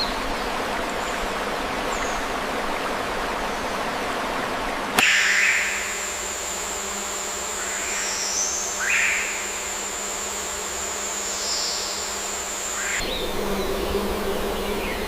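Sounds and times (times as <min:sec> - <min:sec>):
insects buzzing: 0:00.0 - 0:15.0
rushing water hiss: 0:00.0 - 0:15.0.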